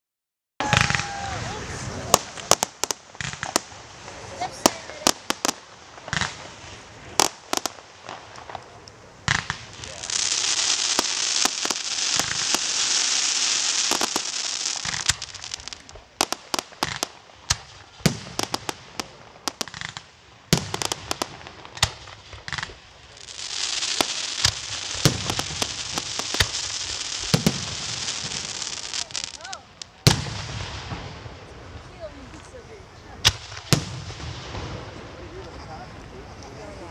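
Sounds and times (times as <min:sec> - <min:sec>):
firework crackling hiss: 0:00.6 - 0:36.9
firework shells bursting: 0:02.1 - 0:03.9, 0:04.6 - 0:31.6, 0:33.2 - 0:35.7.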